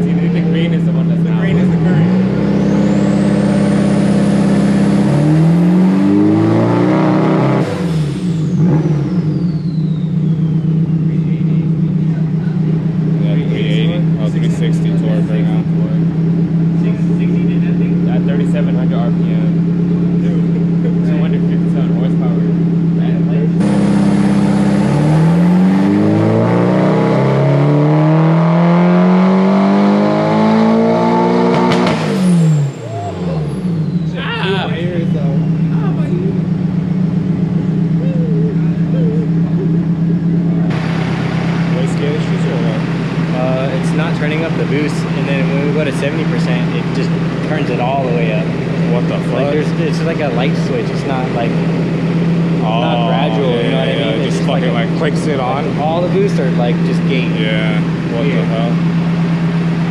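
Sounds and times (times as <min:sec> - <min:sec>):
car engine revving under load: 0:00.0 - 0:59.9
turbo whine: 0:00.0 - 0:59.9.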